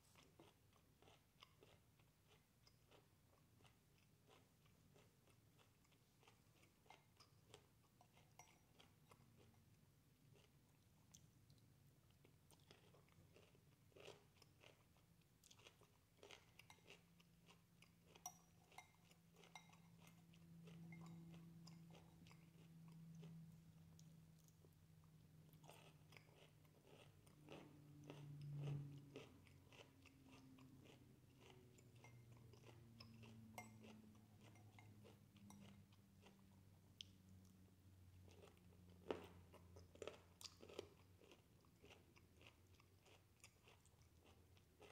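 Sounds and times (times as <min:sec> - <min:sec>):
faint low hum: 0:00.0 - 0:44.9
chewing crunches: 0:00.2 - 0:09.6, 0:10.3 - 0:37.6, 0:38.2 - 0:44.9.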